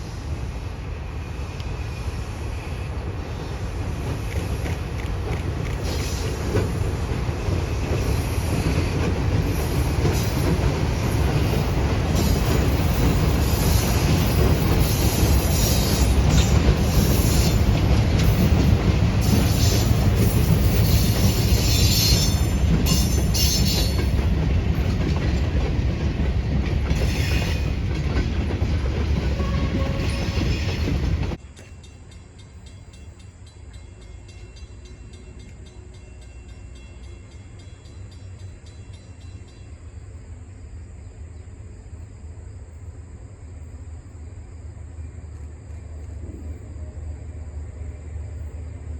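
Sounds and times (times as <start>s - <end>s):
train wheel squeal: 0.0s - 40.1s
freight train rumbling past: 0.0s - 48.9s.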